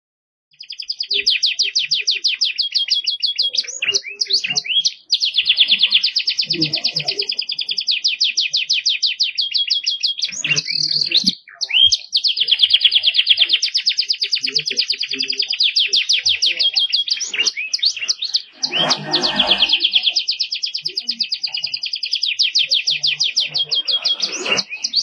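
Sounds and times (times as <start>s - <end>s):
canary singing trills: 0.5s - 25.0s.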